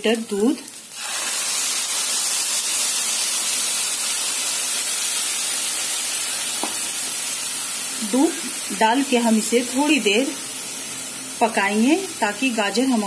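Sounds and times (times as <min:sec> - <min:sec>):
milk sizzling in hot pan: 0:00.0 - 0:13.0.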